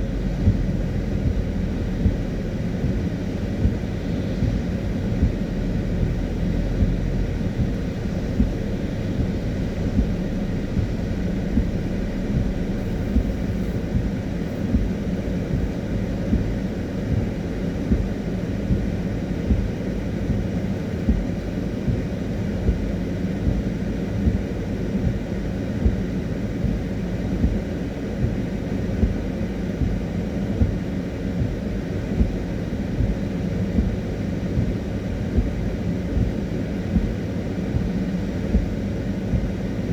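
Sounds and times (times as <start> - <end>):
car interior road rumble: 0.0 - 39.8.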